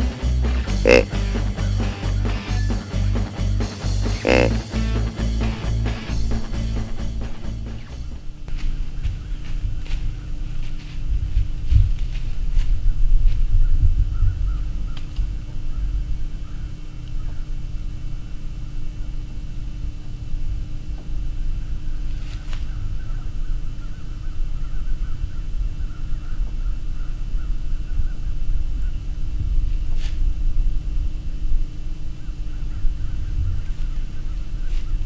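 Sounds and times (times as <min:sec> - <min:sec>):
distant bird calls: 0:00.0 - 0:11.0, 0:12.8 - 0:20.0, 0:21.0 - 0:29.4, 0:31.2 - 0:35.0
low microphone rumble: 0:00.0 - 0:22.1, 0:22.7 - 0:35.0.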